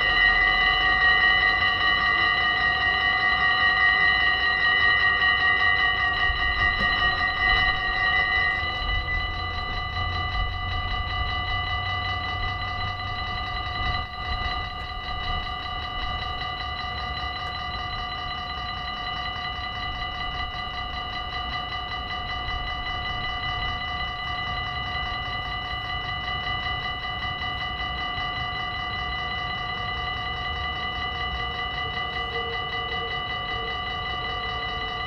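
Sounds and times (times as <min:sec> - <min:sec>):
level crossing warning bell: 0:00.0 - 0:35.0.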